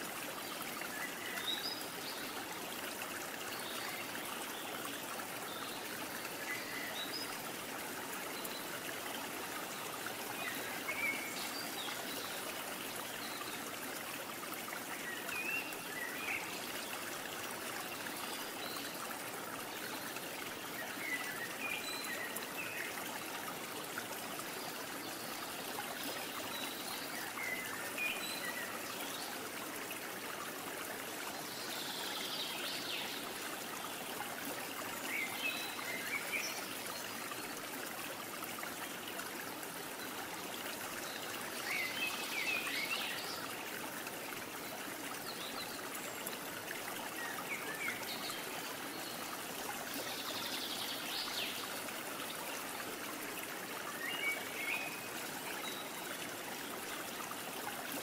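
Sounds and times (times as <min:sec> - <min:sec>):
small stream babbling: 0:00.0 - 0:58.0.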